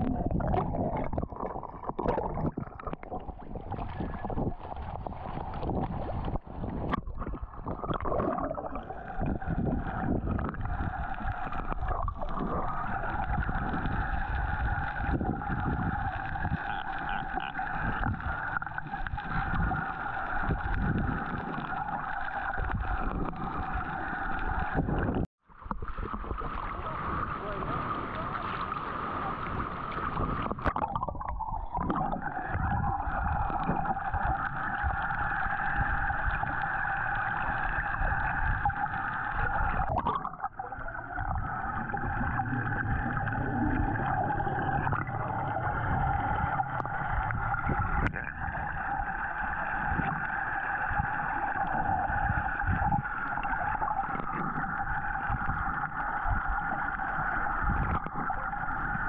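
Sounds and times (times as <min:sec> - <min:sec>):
water rumbling: 0:00.0 - 0:59.0.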